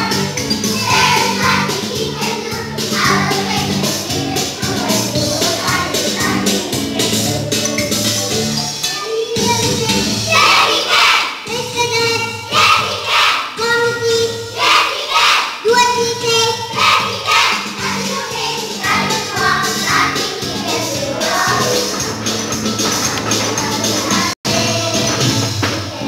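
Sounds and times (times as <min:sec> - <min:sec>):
musical accompaniment: 0:00.0 - 0:15.0, 0:15.7 - 0:26.0
children's choir singing: 0:00.0 - 0:15.7, 0:16.3 - 0:26.0.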